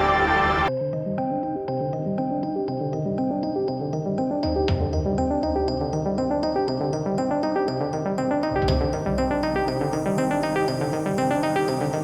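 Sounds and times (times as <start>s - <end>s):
keyboard-led electronic music: 0.0s - 12.0s.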